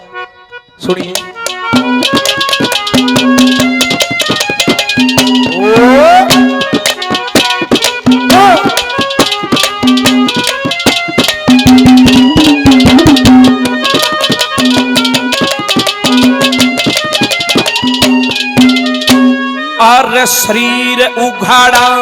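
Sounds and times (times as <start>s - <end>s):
reed instrument melody: 0.0s - 22.0s
rapid hand drum strokes: 1.1s - 19.4s.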